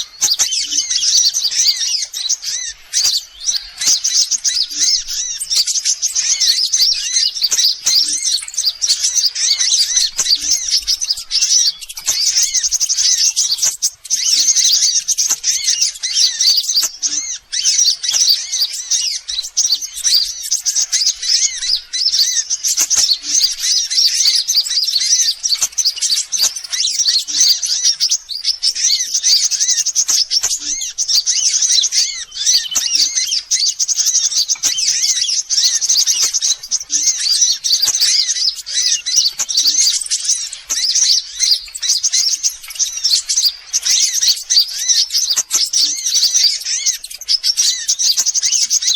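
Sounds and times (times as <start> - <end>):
sunbirds chirping and twittering: 0.0 - 48.9.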